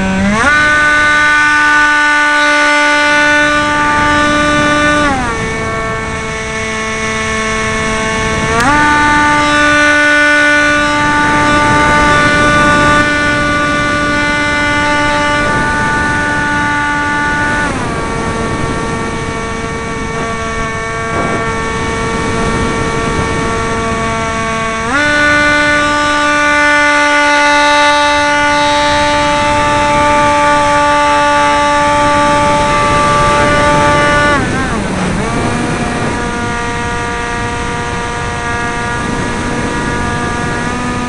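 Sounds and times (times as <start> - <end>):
electric motor and propeller whining: 0.0 - 41.0
wind rush: 0.0 - 41.0.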